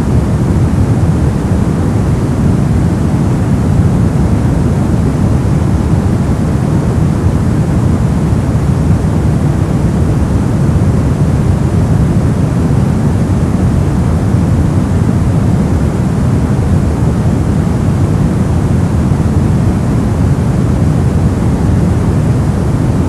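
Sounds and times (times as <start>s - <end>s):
brown noise: 0.0s - 23.0s.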